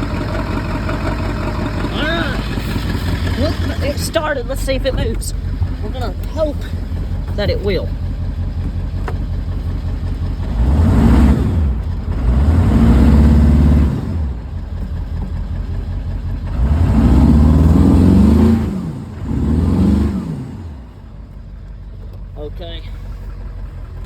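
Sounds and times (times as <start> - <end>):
diesel engine revving from idle: 0.0 - 24.0.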